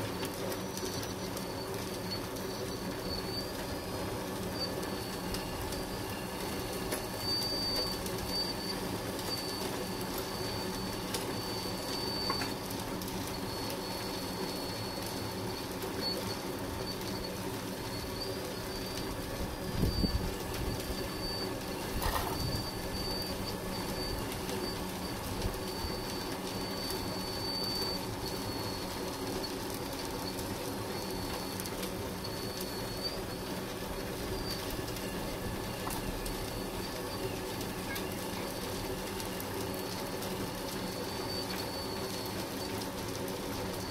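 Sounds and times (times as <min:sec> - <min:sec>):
excavator motors humming and whining: 0:00.0 - 0:43.9.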